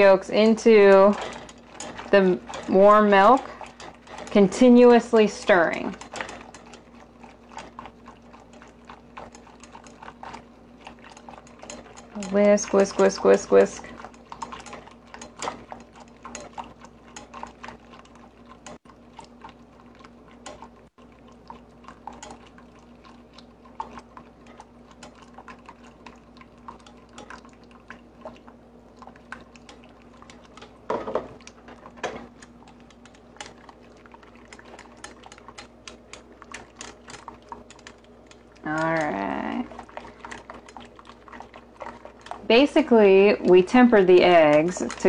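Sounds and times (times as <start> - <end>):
low steady hum: 0.0 - 45.0
whisk scraping metal saucepan: 0.0 - 45.0.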